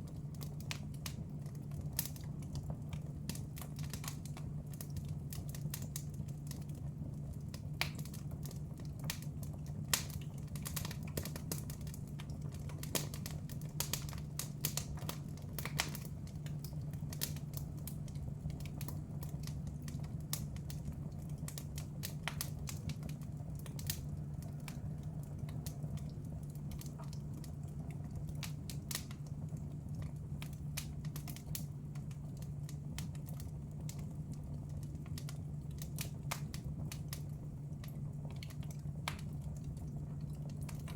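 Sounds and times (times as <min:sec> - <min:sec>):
steady low hum: 0:00.0 - 0:40.9
wood fire crackling: 0:00.0 - 0:40.9.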